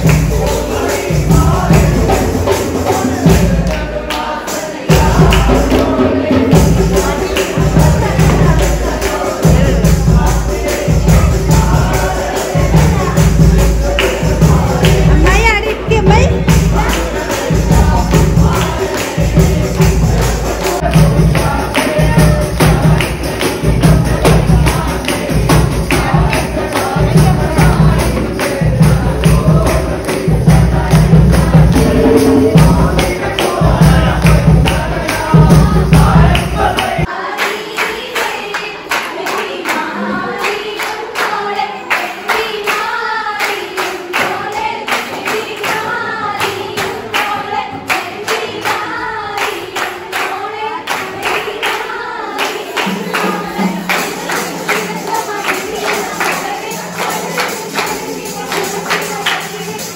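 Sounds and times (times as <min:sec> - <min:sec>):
group singing in chorus: 0:00.0 - 0:59.9
hand percussion: 0:00.0 - 0:59.9
rhythmic clapping: 0:00.0 - 0:59.9.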